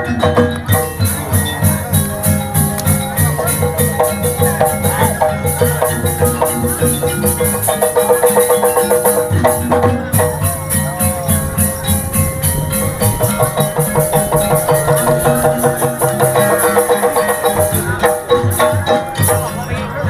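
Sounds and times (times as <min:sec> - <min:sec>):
low drum pattern: 0:00.0 - 0:20.0
metal mallet instruments: 0:00.0 - 0:20.0
steady high beat: 0:00.0 - 0:20.0.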